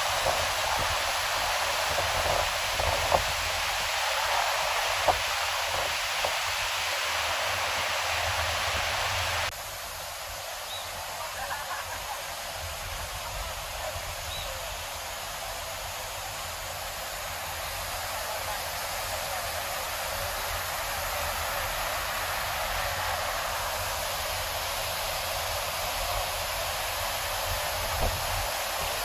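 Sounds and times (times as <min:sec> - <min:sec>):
river rapids rushing: 0:00.0 - 0:29.0.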